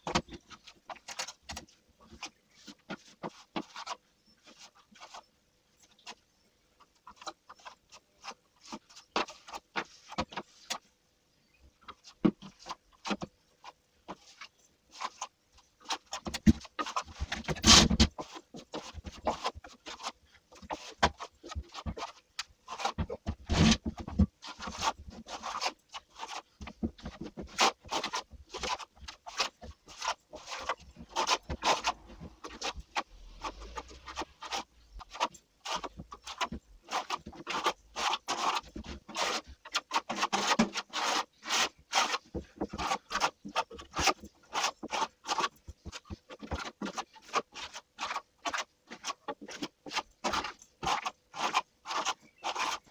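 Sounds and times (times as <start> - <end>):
trowel scraping plaster on wall: 0.1 - 5.3, 7.1 - 10.8, 11.8 - 52.9.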